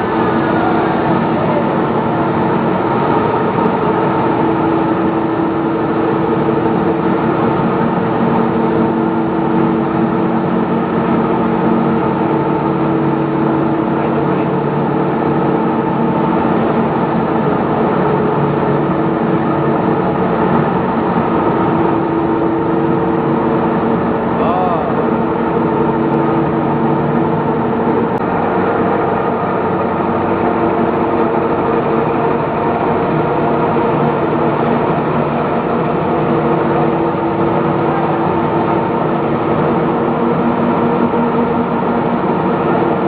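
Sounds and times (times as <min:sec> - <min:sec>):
loud steady machine din: 0:00.0 - 0:43.0.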